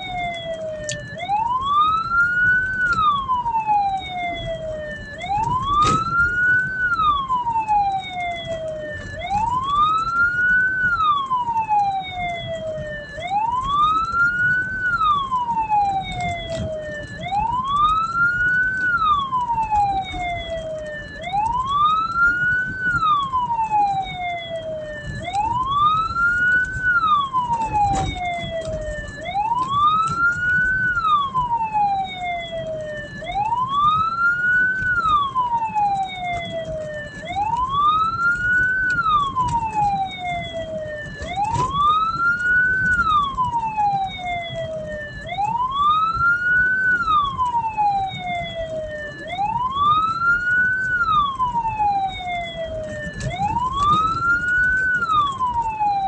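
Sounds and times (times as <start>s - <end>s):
road and engine rumble: 0.0s - 56.0s
siren wailing: 0.0s - 56.0s.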